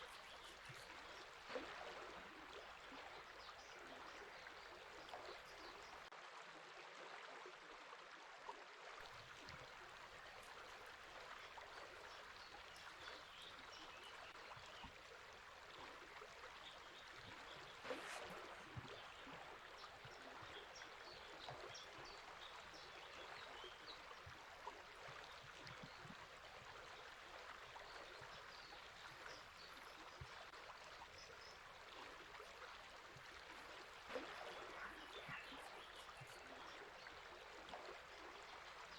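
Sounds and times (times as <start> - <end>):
river flowing: 0.0 - 6.1, 9.0 - 38.9
small birds chirping faintly: 0.0 - 6.1, 9.0 - 38.9.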